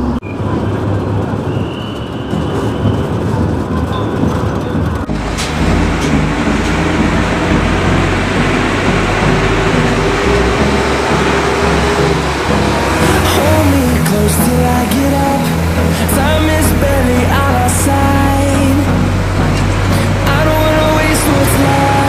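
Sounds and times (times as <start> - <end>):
bus engine rumble and rattle: 0.0 - 22.0
surrounding traffic: 0.0 - 22.0.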